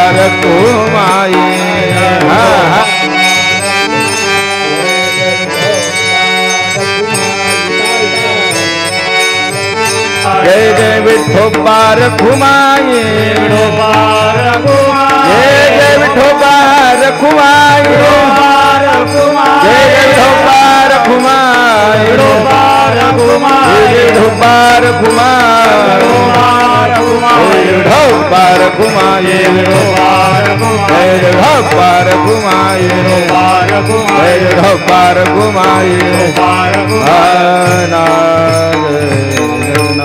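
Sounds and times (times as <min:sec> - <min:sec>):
steady drum beat: 0:00.0 - 0:05.8, 0:09.4 - 0:40.0
man singing: 0:00.0 - 0:40.0.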